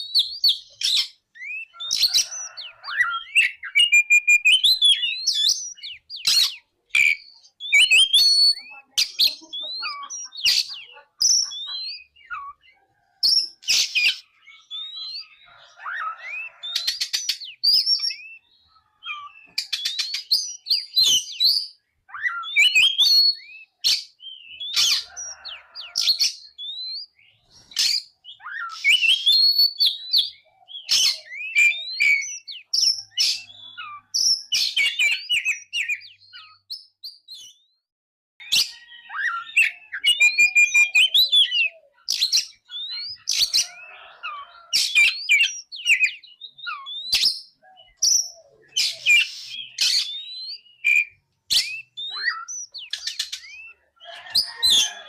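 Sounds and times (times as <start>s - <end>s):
songbird singing whistled phrases: 0.0s - 37.8s, 38.4s - 55.0s.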